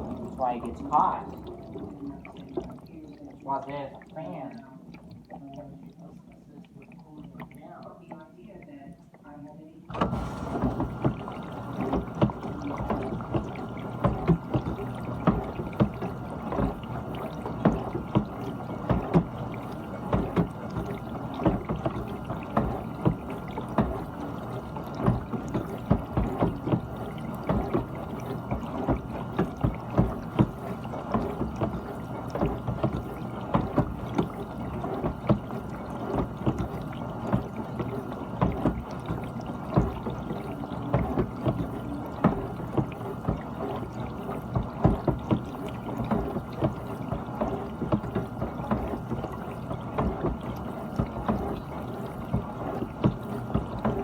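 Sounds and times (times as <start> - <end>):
pump motor hum: 0.0 - 54.0
water sloshing in dishwasher: 0.0 - 54.0.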